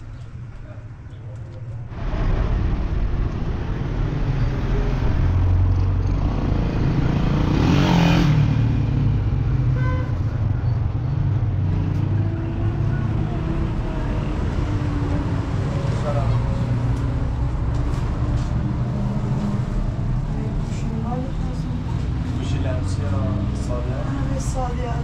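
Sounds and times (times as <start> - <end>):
low road rumble: 0.0 - 25.0.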